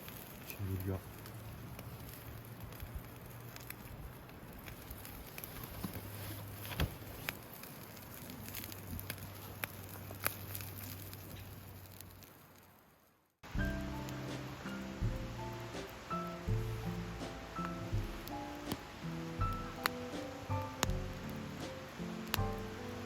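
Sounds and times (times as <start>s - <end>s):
campfire sharp pops: 0.0s - 12.6s, 13.4s - 23.0s
campfire crackling: 0.0s - 23.0s.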